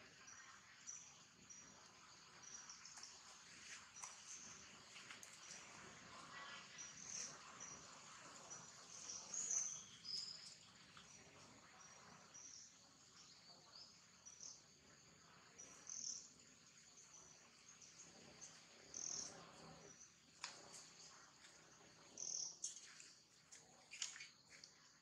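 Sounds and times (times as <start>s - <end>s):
insect chirring: 0.1s - 25.0s.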